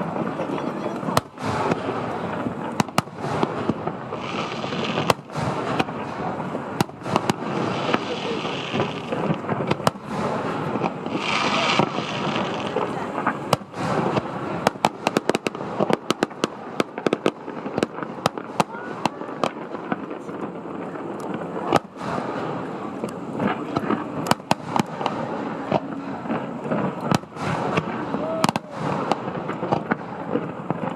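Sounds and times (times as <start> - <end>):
firework bangs and cracks: 0.0 - 30.9.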